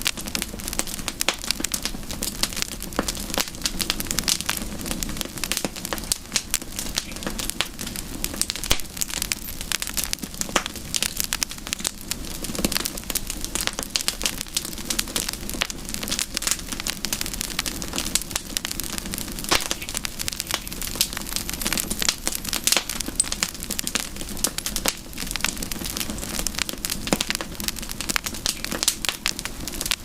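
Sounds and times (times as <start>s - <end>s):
campfire crackling and popping: 0.0s - 30.0s
flames rumbling: 0.0s - 30.0s.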